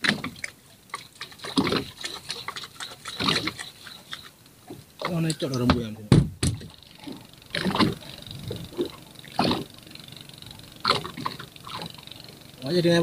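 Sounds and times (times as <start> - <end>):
water slapping boat hull: 0.0 - 13.0.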